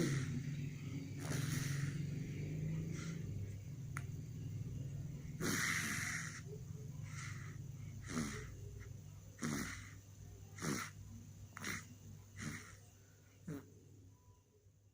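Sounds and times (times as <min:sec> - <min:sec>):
baby snoring: 0:00.0 - 0:03.6, 0:05.0 - 0:13.8.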